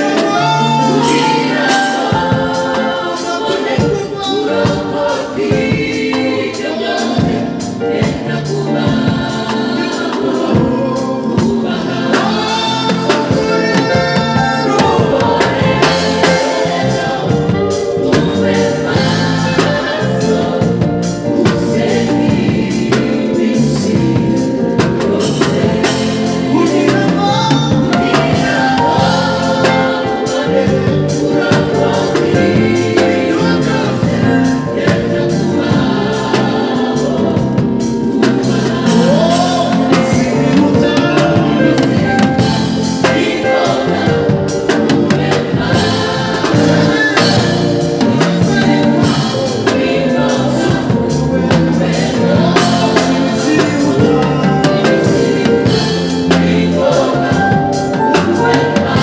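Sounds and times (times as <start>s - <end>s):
gospel choir singing: 0.0s - 59.0s
electric bass: 7.2s - 59.0s.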